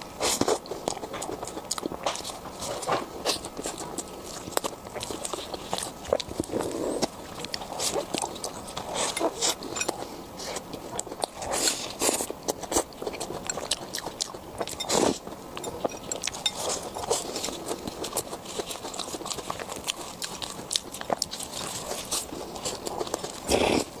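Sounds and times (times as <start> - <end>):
crunching fried food: 0.0 - 24.0.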